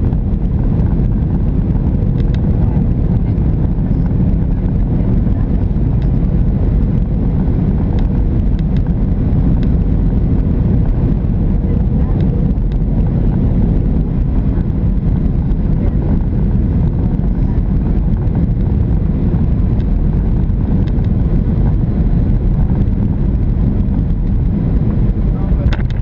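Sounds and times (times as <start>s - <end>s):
jet engine rumble inside cabin: 0.0s - 26.0s.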